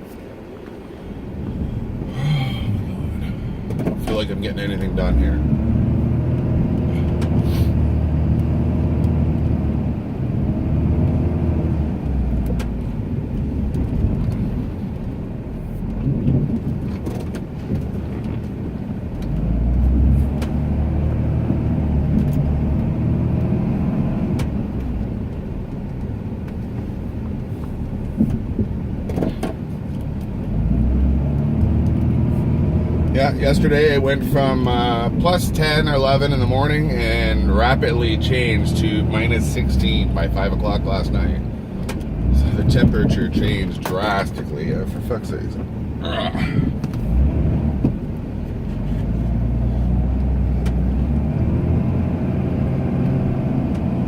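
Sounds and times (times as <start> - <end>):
truck engine revving: 1.6 - 15.0, 17.7 - 27.9, 29.2 - 54.0.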